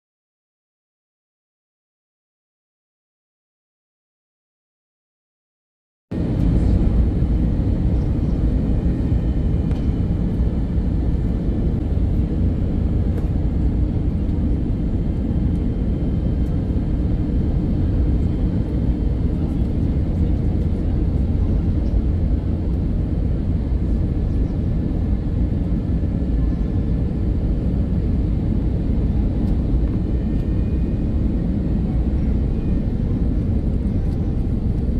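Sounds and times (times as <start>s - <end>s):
airliner cabin engine noise: 6.1s - 34.9s.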